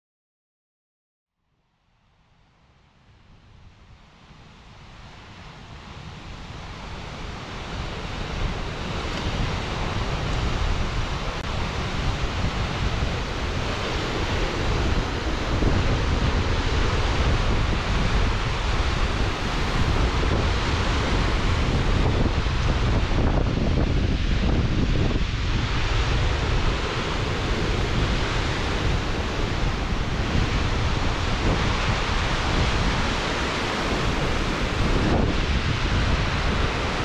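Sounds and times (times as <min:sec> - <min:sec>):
river rushing: 0:03.1 - 0:37.0
waterfall roaring: 0:04.6 - 0:37.0.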